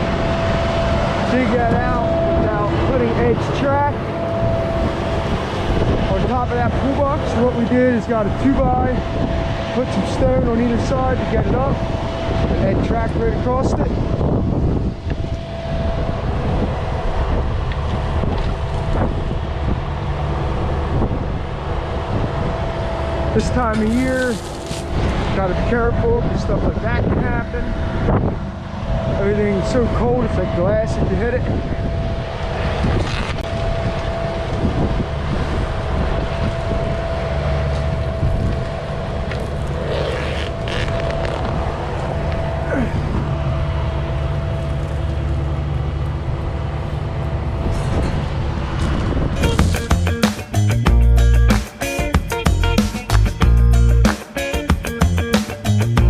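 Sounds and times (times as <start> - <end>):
constant high whine: 0.0 - 56.0
diesel engine humming: 0.0 - 56.0.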